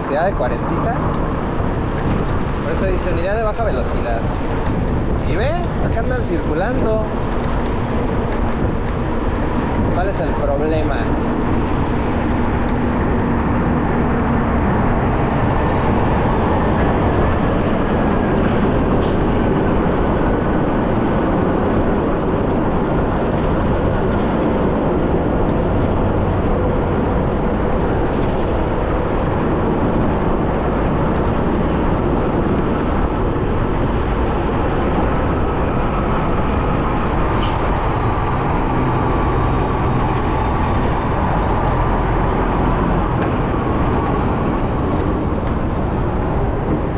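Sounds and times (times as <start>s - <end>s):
road noise: 0.0s - 46.9s
wind rushing: 0.0s - 46.9s.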